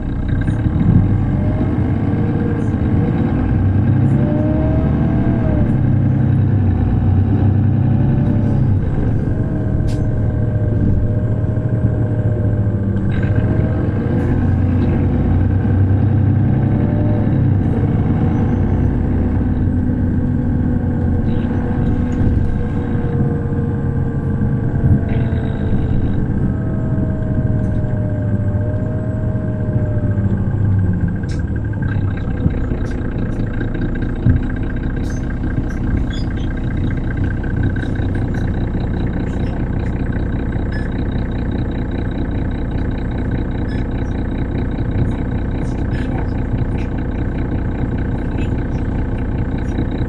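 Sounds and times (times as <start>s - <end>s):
bus diesel engine running: 0.0s - 50.0s.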